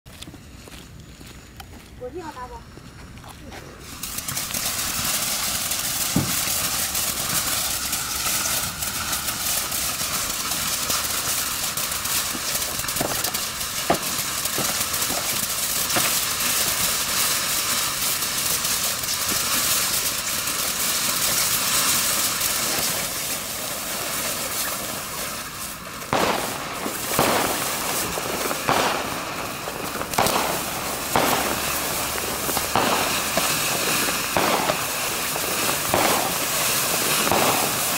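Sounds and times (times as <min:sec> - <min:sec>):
firework pops and cracks: 0:00.1 - 0:37.9
firework fountain hissing: 0:00.4 - 0:37.9.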